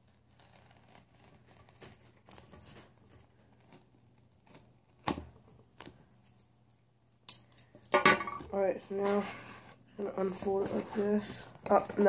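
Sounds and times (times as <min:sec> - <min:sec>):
cardboard and tape rustling: 0:00.0 - 0:06.5, 0:08.5 - 0:12.0.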